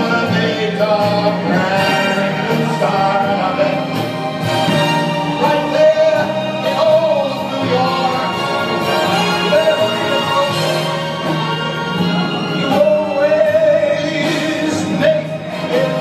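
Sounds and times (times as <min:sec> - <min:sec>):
steady musical accompaniment: 0:00.0 - 0:16.0.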